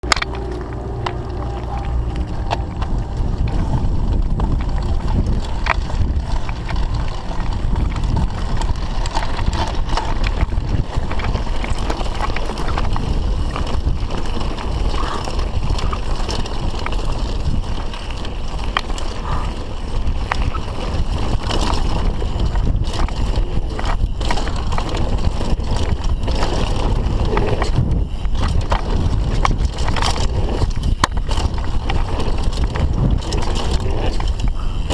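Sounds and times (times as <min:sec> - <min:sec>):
bike clattering over bumps: 0:00.0 - 0:34.9
tyres running over dirt: 0:00.0 - 0:34.9
wind buffeting microphone: 0:00.0 - 0:34.9.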